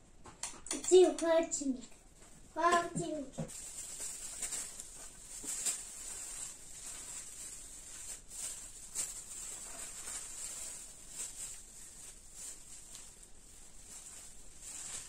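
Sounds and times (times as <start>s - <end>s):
hands rustling shredded cabbage: 2.2s - 15.0s.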